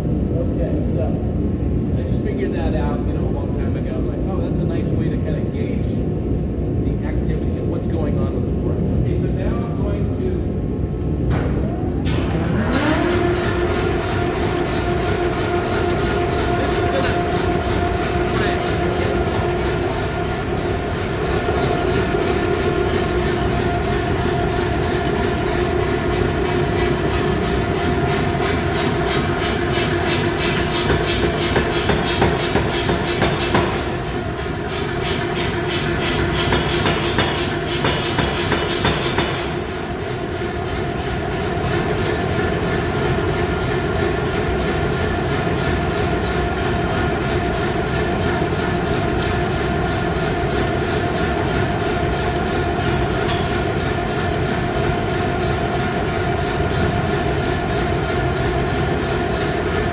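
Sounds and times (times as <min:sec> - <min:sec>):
machinery droning hum: 0:00.0 - 0:59.9
power hammer clatter: 0:11.3 - 0:59.9.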